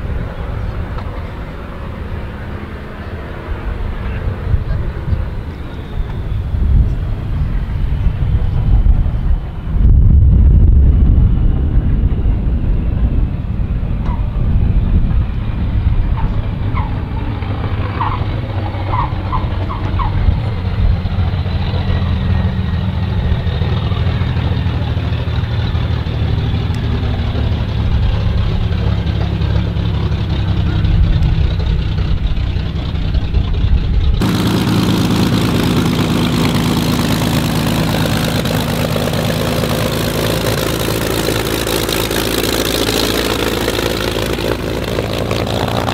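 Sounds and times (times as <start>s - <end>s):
plane engine idling: 0.0s - 45.9s
propeller plane engine droning: 0.0s - 45.9s.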